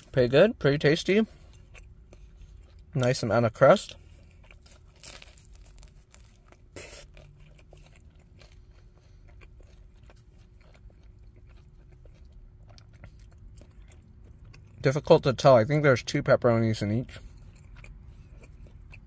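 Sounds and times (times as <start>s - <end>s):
close-up chewing with crunches: 0.1s - 19.0s.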